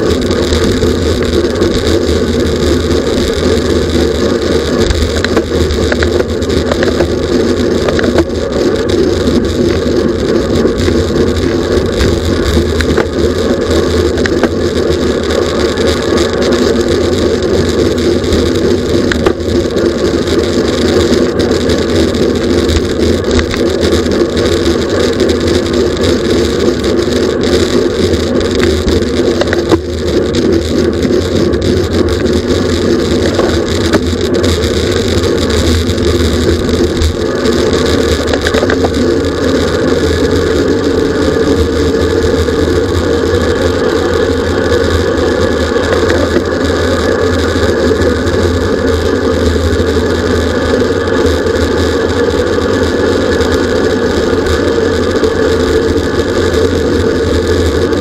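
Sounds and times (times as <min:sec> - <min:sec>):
bicycle road noise: 0:00.0 - 0:58.0
wind rush: 0:00.0 - 0:58.0.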